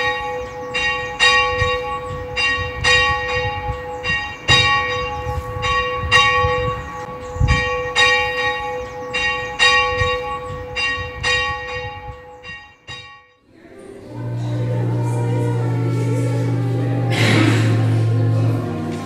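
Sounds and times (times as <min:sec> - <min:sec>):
church bell ringing: 0:00.0 - 0:19.0.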